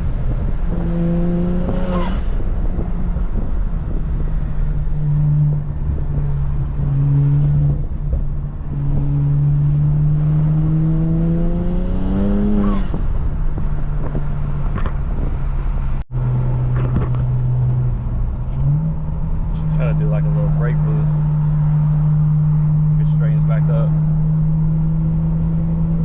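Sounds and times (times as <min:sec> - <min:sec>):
car engine while driving: 0:00.0 - 0:26.0.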